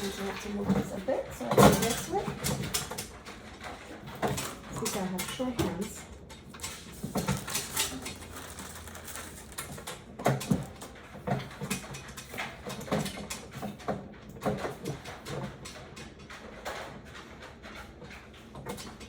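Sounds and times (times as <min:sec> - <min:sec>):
clicks and knocks of parts: 0:00.7 - 0:19.0.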